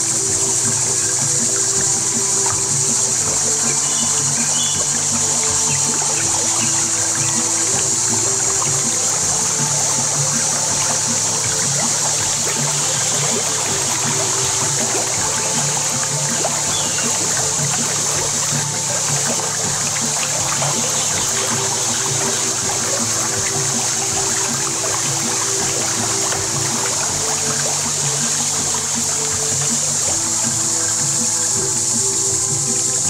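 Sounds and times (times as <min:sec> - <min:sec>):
water rippling and trickling: 0:00.0 - 0:33.0.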